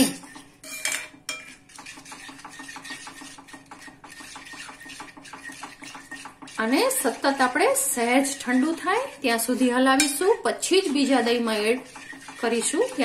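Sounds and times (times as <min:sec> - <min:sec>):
spoon scraping a pan: 0:00.0 - 0:13.0.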